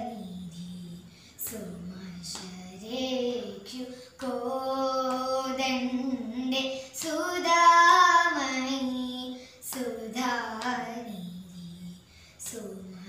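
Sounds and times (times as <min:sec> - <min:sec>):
children and women singing a chant: 0:00.0 - 0:13.0.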